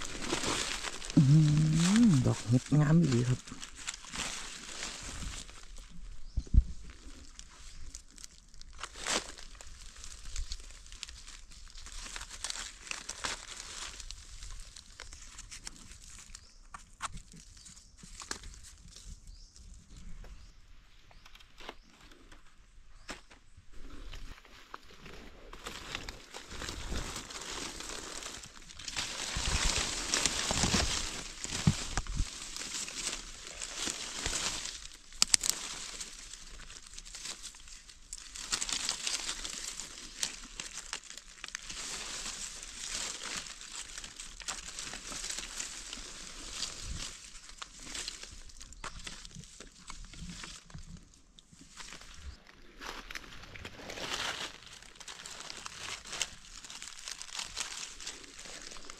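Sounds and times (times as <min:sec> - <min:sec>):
dry leaves rustling and crackling: 0:00.0 - 0:20.0, 0:23.8 - 0:58.9.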